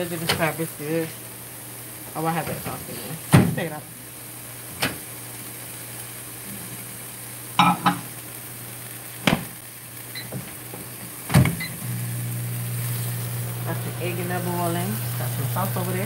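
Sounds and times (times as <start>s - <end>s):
crabs sizzling in a frying pan: 0.0s - 16.0s.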